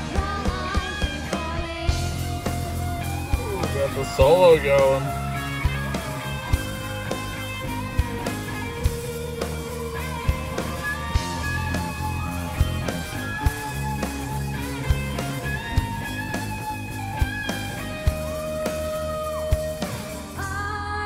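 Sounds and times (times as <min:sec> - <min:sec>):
steady drum beat: 0:00.0 - 0:20.4
bass guitar: 0:00.0 - 0:21.0
electric guitar solo: 0:02.8 - 0:20.4.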